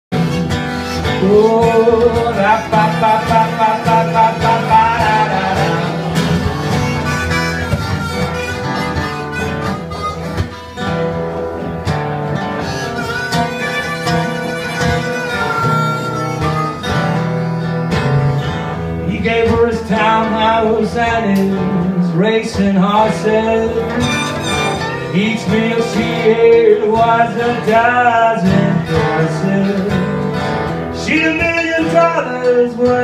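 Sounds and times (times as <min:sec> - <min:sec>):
harmonica melody: 0:00.1 - 0:19.1, 0:23.0 - 0:32.9
acoustic guitars strumming: 0:00.1 - 0:33.0.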